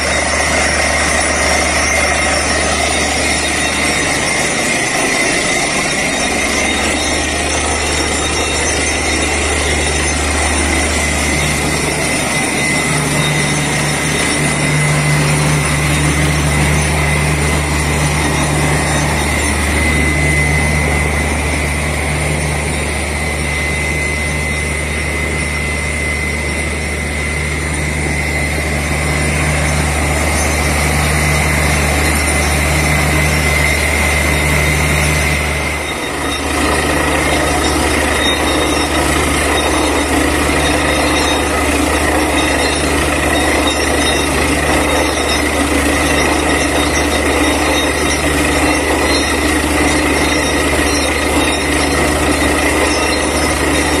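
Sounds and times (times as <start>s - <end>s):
drilling rig engine drone: 0.0s - 54.0s
high whine: 0.0s - 54.0s.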